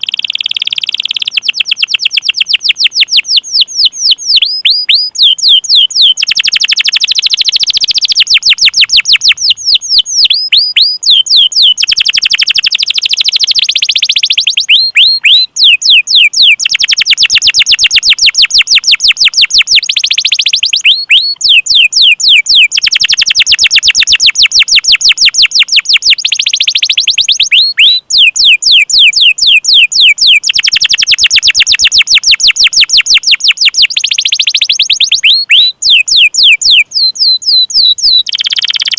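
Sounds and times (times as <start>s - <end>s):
songbird trills and whistles: 0.0s - 38.9s.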